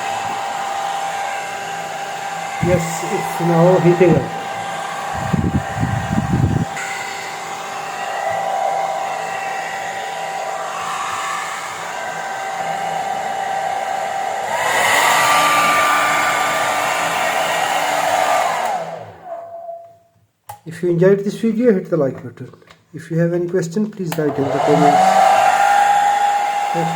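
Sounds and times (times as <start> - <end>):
hair dryer whining: 0.0 - 19.5, 24.1 - 26.9.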